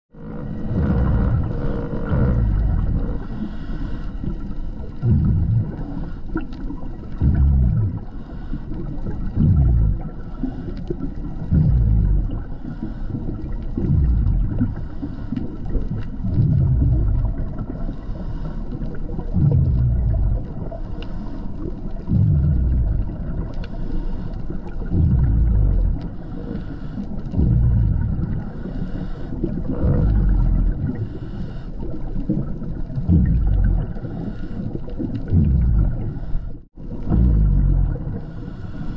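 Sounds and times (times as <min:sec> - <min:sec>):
diver breathing through regulator: 0:00.1 - 0:16.9, 0:17.6 - 0:38.9
exhaled air bubbling: 0:00.1 - 0:38.9
underwater background: 0:00.1 - 0:38.9.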